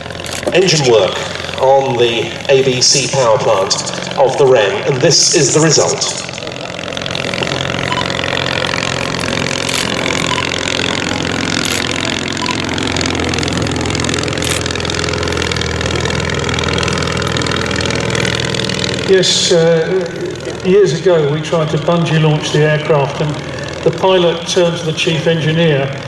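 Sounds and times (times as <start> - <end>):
small aircraft engine running: 0.0 - 26.0.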